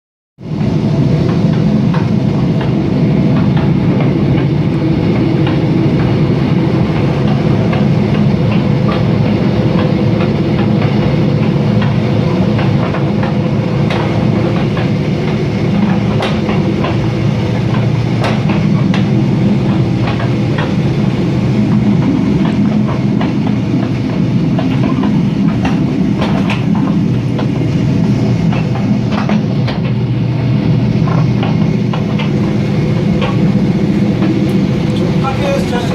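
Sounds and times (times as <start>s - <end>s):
train rumbling along track: 0.4s - 35.9s
wheels clicking and creaking on rails: 0.4s - 35.9s.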